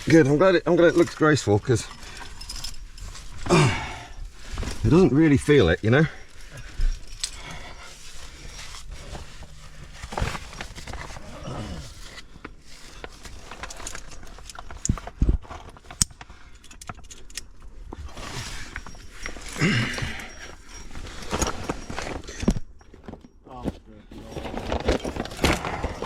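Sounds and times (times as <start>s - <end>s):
climbing gear clinking: 0.0s - 26.0s.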